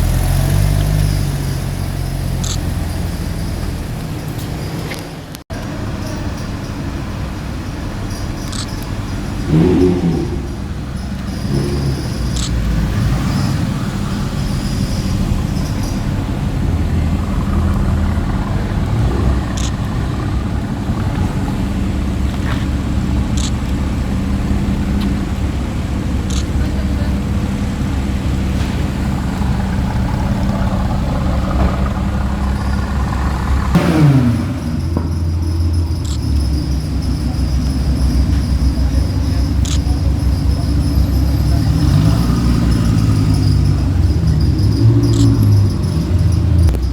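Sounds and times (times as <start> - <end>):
sports car engines running: 0.0 - 46.9
traffic noise: 0.0 - 46.9
low steady rumble: 5.6 - 13.0, 13.9 - 46.9
car passing loudly: 8.0 - 46.9.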